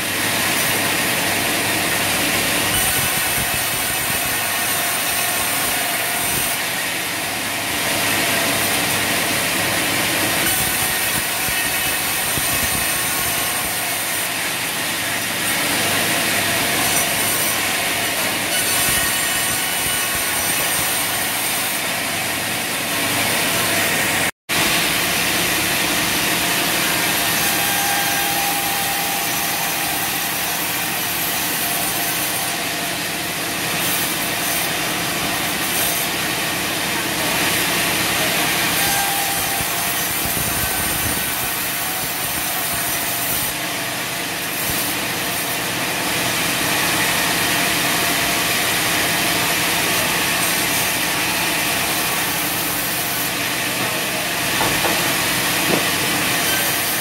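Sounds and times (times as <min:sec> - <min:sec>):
band saw machine hum: 0:00.0 - 0:57.0
saw blade cutting wood: 0:00.0 - 0:57.0.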